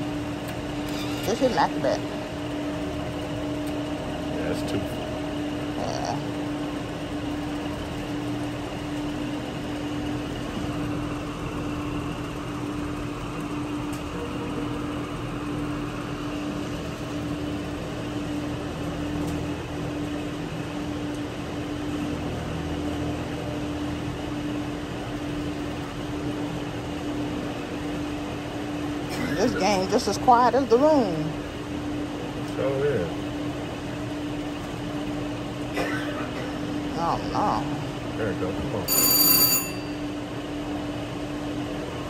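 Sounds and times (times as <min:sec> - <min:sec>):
ventilation and machine hum: 0:00.0 - 0:42.0.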